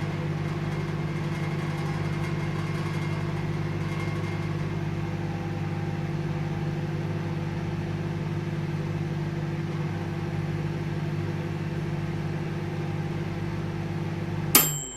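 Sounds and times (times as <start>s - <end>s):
microwave oven humming: 0.0s - 14.9s.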